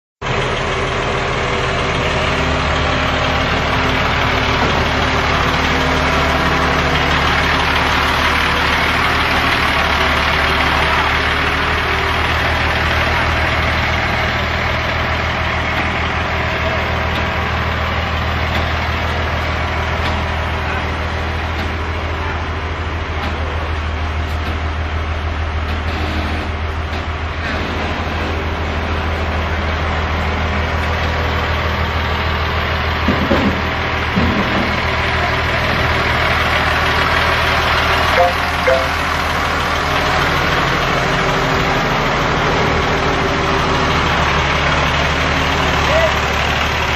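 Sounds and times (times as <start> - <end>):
vehicle engine running steadily: 0.2 - 46.9.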